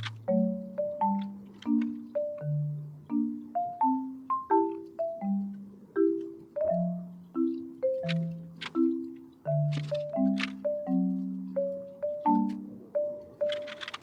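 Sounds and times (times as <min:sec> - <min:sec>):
gentle tune of ringing notes: 0:00.0 - 0:14.0.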